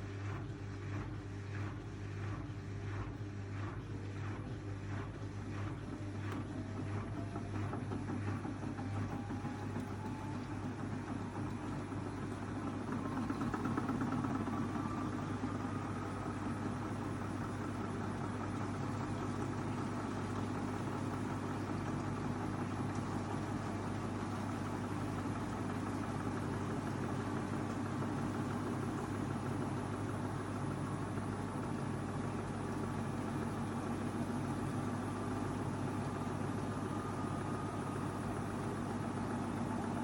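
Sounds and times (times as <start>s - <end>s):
washing machine drum knocking: 0.0s - 40.0s
washing machine motor whine: 0.0s - 40.0s.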